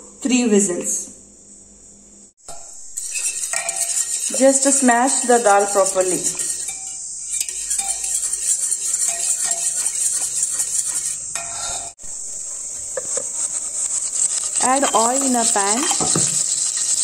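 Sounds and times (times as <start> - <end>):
steady high hiss: 0.0 - 17.0
whisk scraping a metal pot: 2.5 - 17.0.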